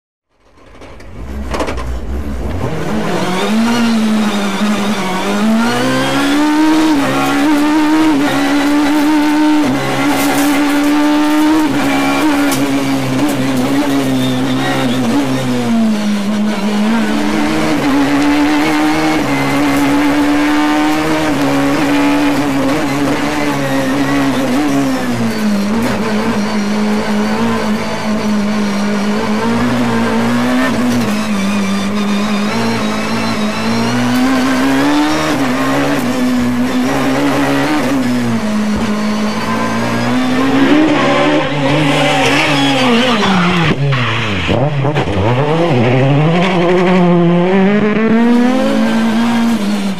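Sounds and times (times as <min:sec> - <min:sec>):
car engine revving high: 0:01.1 - 0:49.9.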